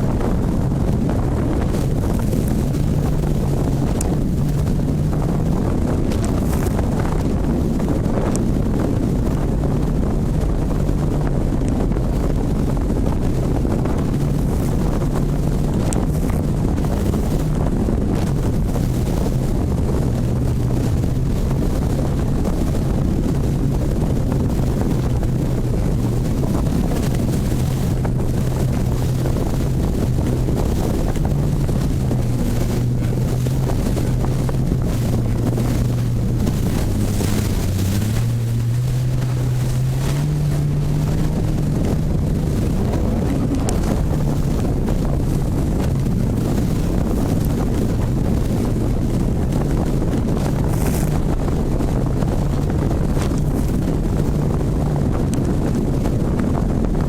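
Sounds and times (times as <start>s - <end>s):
boat engine running: 0.0s - 57.0s
wind on microphone: 0.0s - 57.0s.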